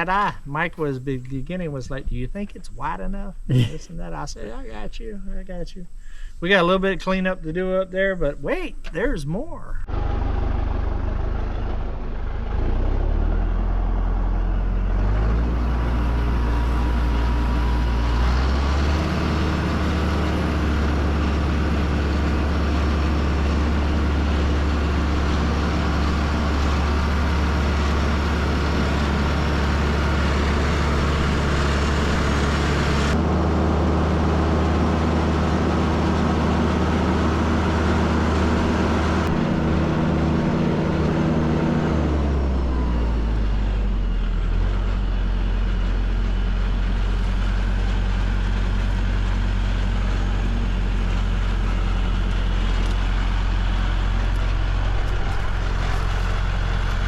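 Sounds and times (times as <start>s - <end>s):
heavy vehicle engine running: 9.8s - 57.0s.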